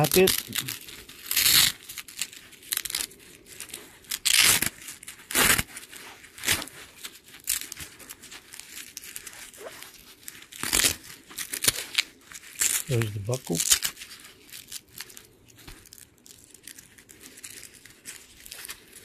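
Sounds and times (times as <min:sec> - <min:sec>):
velcro strap ripping open: 0:00.0 - 0:19.0.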